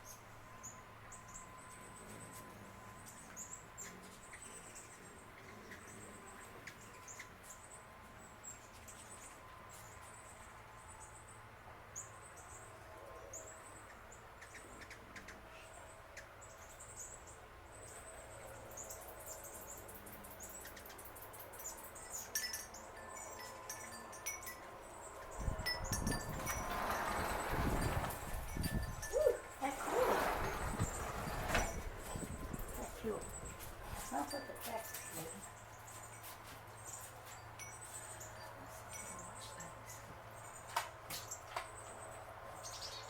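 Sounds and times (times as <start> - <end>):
small birds chirping: 0.0 - 24.0, 28.6 - 43.0.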